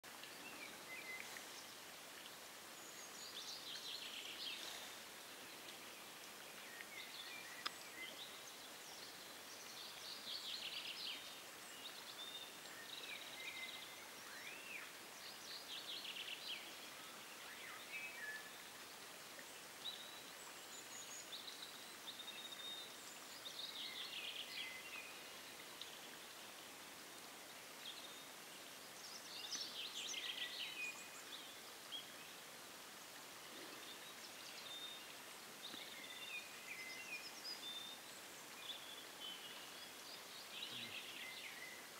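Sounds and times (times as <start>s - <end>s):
faint outdoor hiss: 0.0s - 41.9s
songbirds singing: 0.0s - 41.9s.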